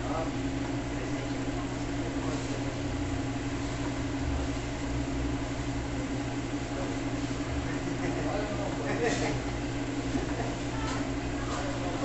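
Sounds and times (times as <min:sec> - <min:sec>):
electric slicer humming: 0:00.0 - 0:12.0.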